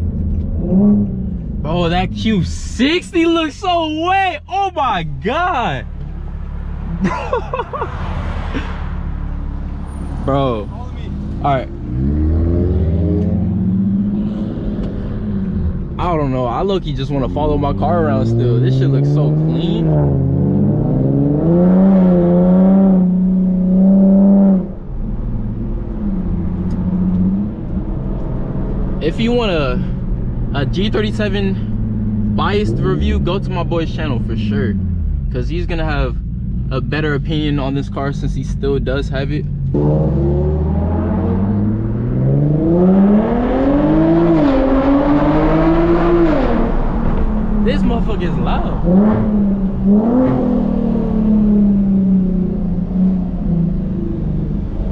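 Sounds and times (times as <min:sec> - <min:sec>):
car engine and exhaust: 0:00.0 - 0:54.9.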